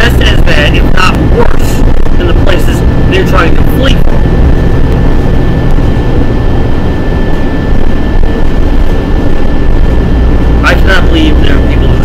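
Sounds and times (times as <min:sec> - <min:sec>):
bus engine rumbling: 0:00.0 - 0:12.0
thin steady whine: 0:00.0 - 0:12.0.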